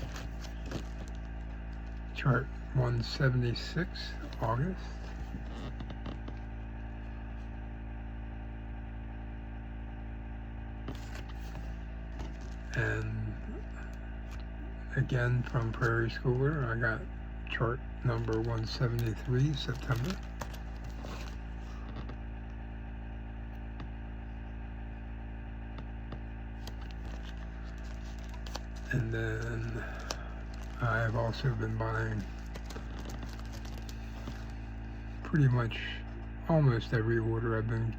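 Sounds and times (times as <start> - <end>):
low hum: 0.0 - 37.9.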